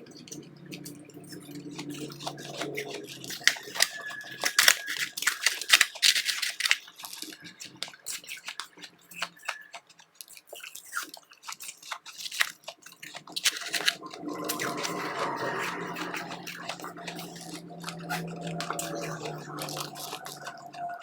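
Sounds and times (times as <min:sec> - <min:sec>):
ice chips crunched and chewed: 0:00.1 - 0:21.0.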